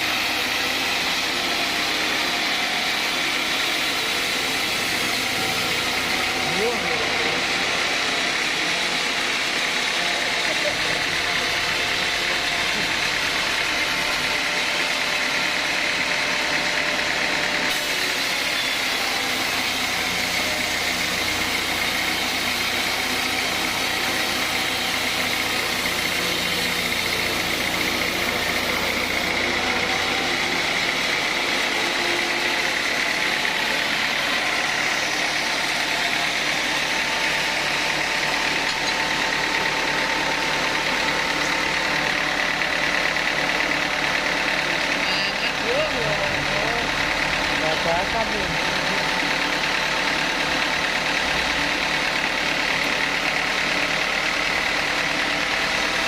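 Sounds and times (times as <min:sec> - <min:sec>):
sawmill saw cutting wood: 0:00.0 - 0:56.0.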